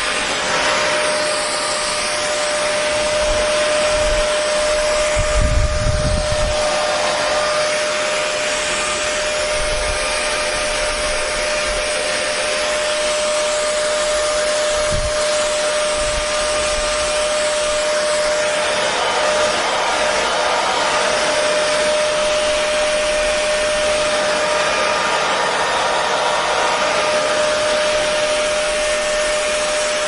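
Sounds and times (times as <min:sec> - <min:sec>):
hair dryer running: 0:00.0 - 0:30.0.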